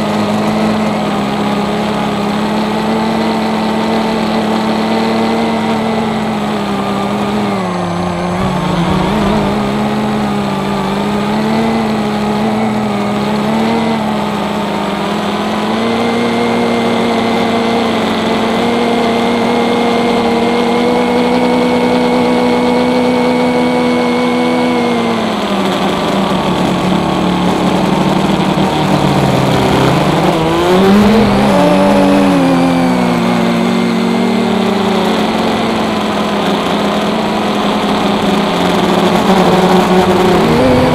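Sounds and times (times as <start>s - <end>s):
quadcopter propellers buzzing: 0.0s - 40.9s.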